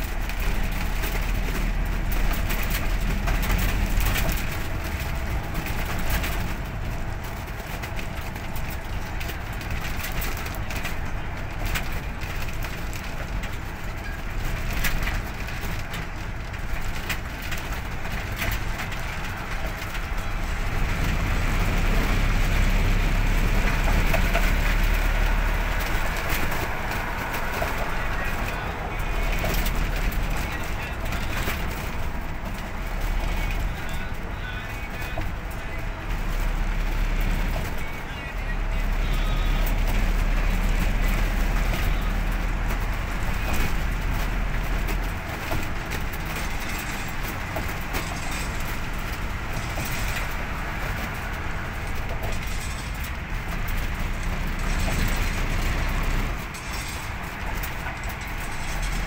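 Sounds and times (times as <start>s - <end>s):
vehicle road and engine noise: 0.0s - 59.0s.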